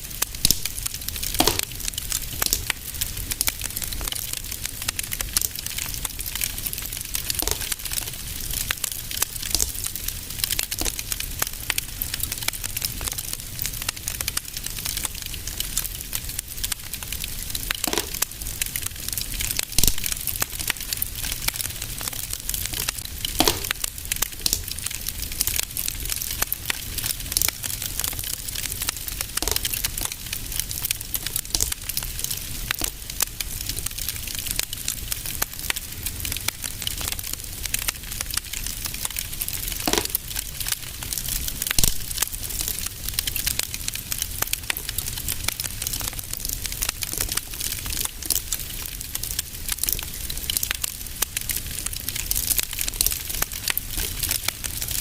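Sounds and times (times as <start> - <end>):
loud fire pops: 0.0 - 55.0
low fire rumble: 0.0 - 55.0
wood fire crackling: 0.0 - 55.0.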